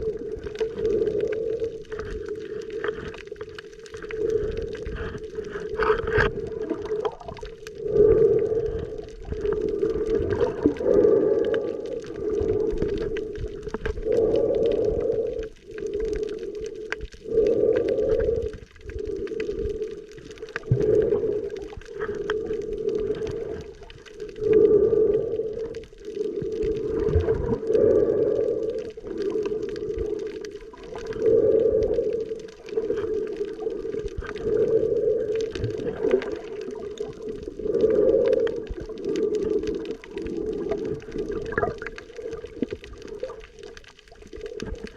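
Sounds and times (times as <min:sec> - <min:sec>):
muffled underwater hum: 0:00.0 - 0:44.9.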